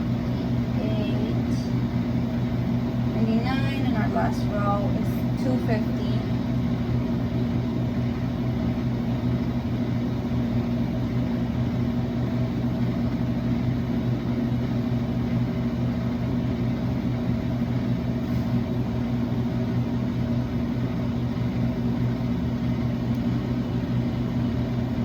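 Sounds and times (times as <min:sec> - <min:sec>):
vending machine humming: 0:00.0 - 0:25.0.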